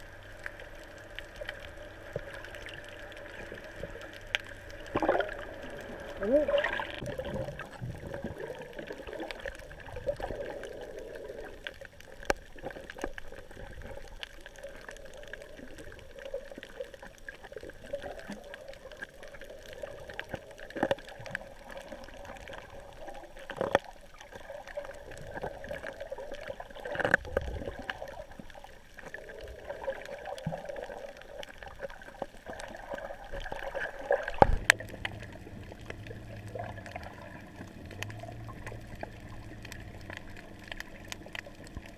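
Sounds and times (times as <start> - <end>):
muffled underwater water noise: 0.0 - 41.9.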